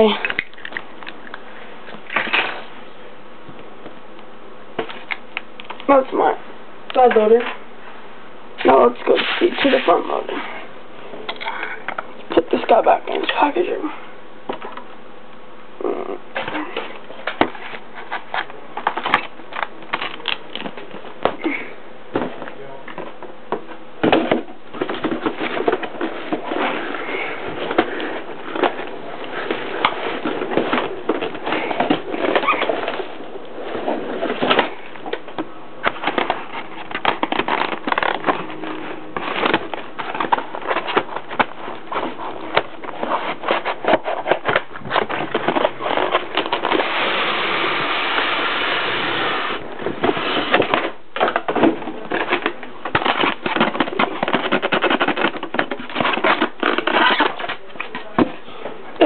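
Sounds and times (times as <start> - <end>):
cardboard and foam packaging rustling: 0.0 - 4.0, 8.6 - 13.8, 16.3 - 59.0.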